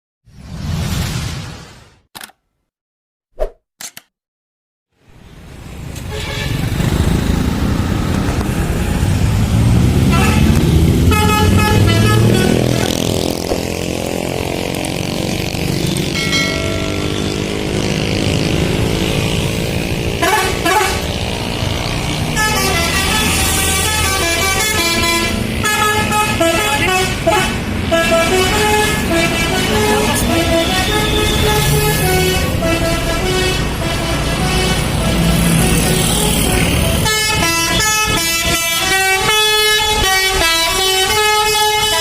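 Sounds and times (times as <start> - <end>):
bus engine running: 5.4 - 42.0
bus multi-tone horn melody: 6.0 - 7.4, 9.5 - 42.0.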